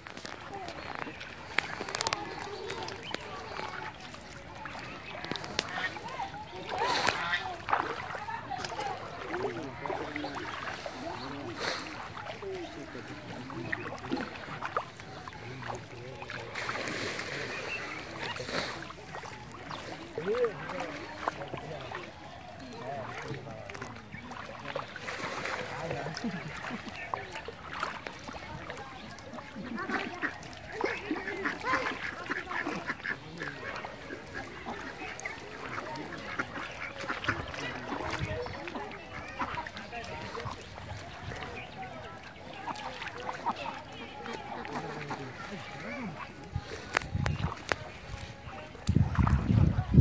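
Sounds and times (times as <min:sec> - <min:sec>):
water splashing and sloshing: 0:00.0 - 0:50.0
ducks quacking: 0:00.2 - 0:50.0.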